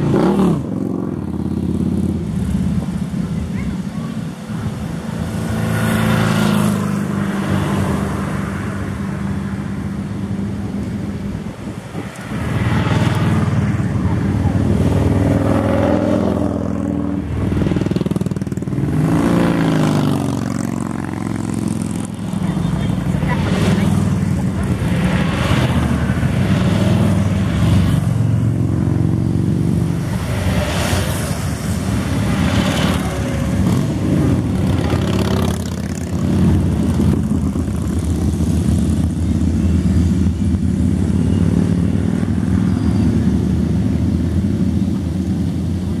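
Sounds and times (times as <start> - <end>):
motorcycles riding past: 0.0 - 46.0.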